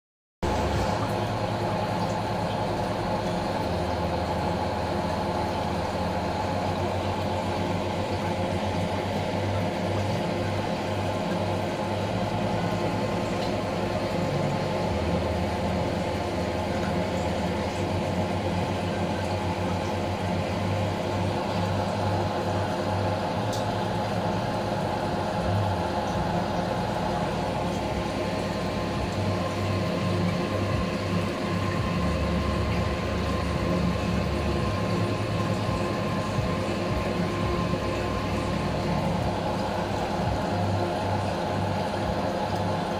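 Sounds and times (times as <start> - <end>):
aquarium pumps humming: 0.4 - 42.9.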